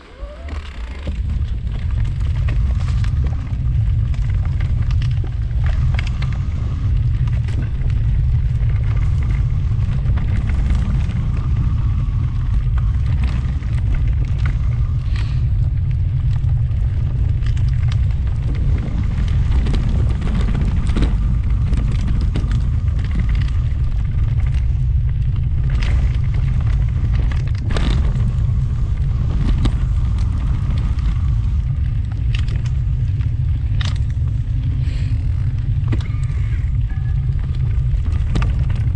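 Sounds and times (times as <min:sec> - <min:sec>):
bike clicks and rattles: 0:00.0 - 0:38.9
wind and ride noise rumble: 0:00.0 - 0:38.9.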